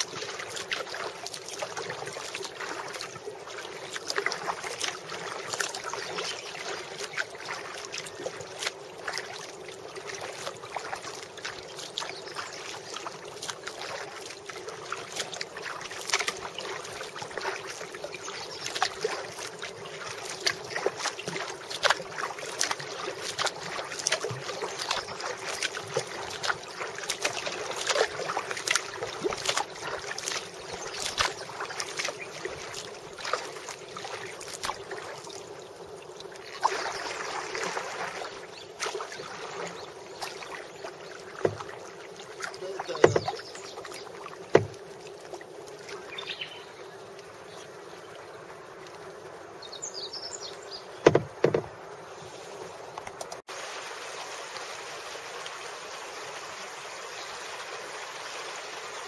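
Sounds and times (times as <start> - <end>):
rain pattering on water and kayak: 0.0 - 53.5.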